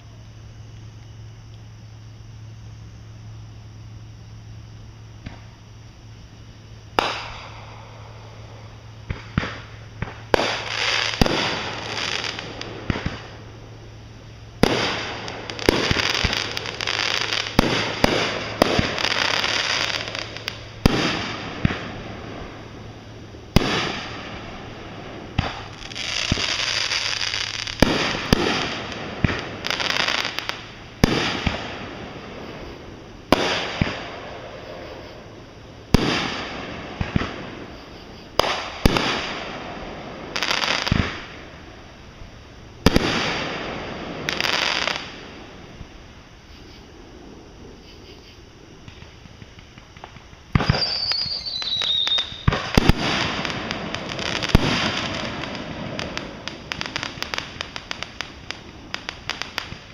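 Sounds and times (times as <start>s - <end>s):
fireworks crackle: 5.2s - 59.9s
fireworks bangs: 6.9s - 13.8s, 14.4s - 41.9s, 42.7s - 46.1s, 48.8s - 59.9s.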